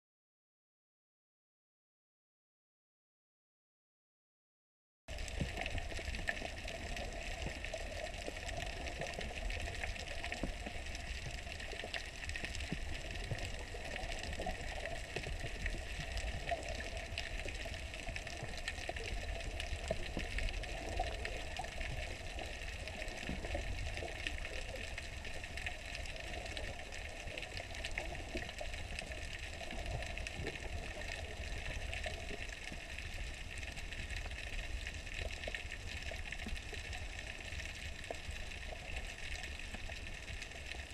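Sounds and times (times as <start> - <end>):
muffled underwater water noise: 5.1 - 40.9.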